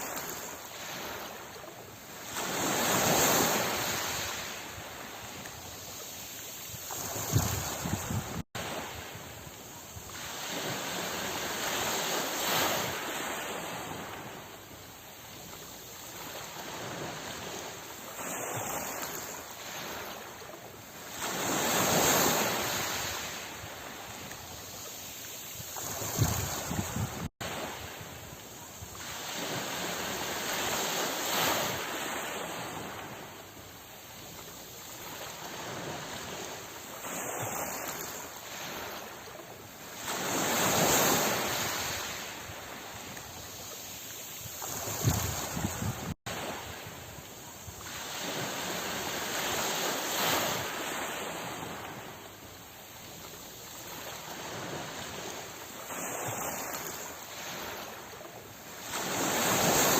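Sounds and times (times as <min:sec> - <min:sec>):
ocean waves surging: 0:00.0 - 0:59.9.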